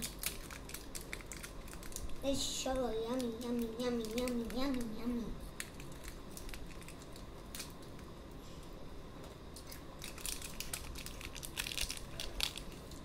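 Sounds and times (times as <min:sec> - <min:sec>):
plastic clicking and crinkling: 0:00.0 - 0:05.0, 0:05.6 - 0:08.1, 0:09.6 - 0:13.0.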